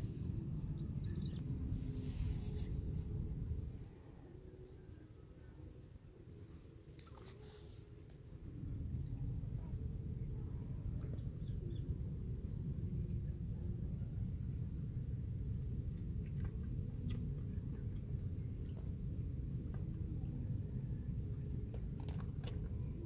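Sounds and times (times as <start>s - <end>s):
constant low rumble: 0.0s - 23.0s.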